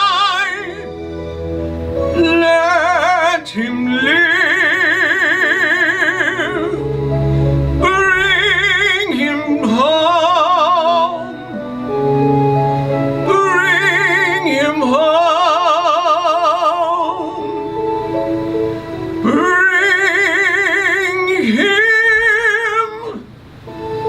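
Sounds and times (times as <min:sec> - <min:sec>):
instrumental accompaniment: 0:00.0 - 0:24.0
operatic solo singing: 0:00.0 - 0:24.0.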